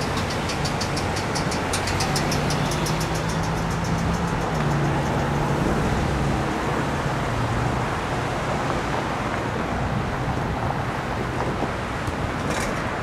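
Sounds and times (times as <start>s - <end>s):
cars driving by: 0.0s - 13.0s.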